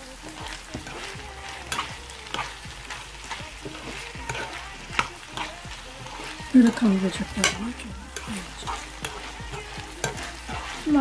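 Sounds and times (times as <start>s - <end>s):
food sizzling in a frying pan: 0.0s - 11.0s
metal spoon scraping a pan: 0.0s - 11.0s.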